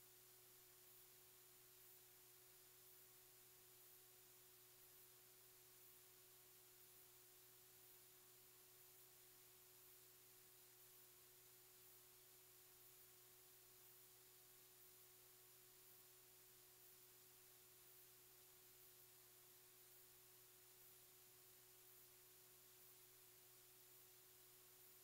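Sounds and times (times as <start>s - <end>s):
faint hiss: 0.0s - 25.0s.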